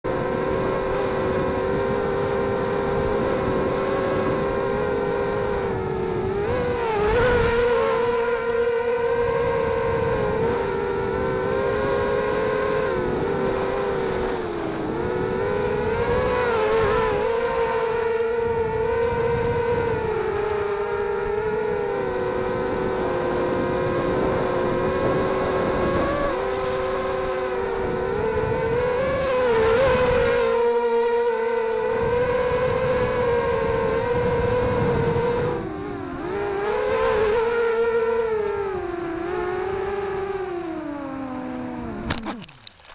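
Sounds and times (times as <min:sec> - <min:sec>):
quadcopter motors whining: 0:00.0 - 0:42.9
wind rumble on microphone: 0:00.1 - 0:42.7.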